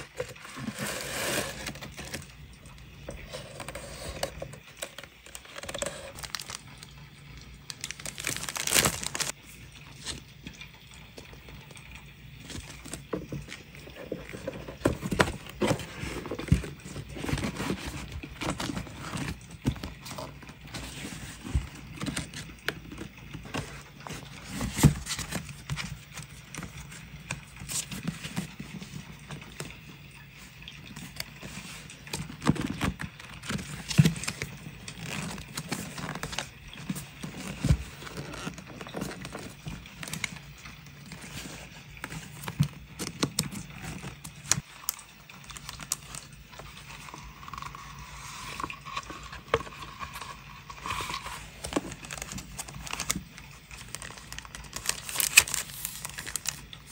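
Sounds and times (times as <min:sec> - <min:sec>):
paper rustling and crinkling: 0:00.0 - 0:07.0, 0:07.7 - 0:10.3, 0:12.4 - 0:29.9, 0:30.8 - 0:56.9.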